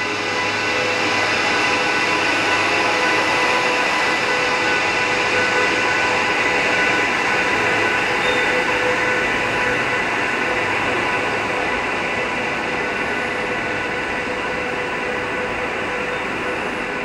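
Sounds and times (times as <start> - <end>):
electric locomotive whine: 0.0 - 17.0
wheels rumbling on rail: 0.0 - 17.0.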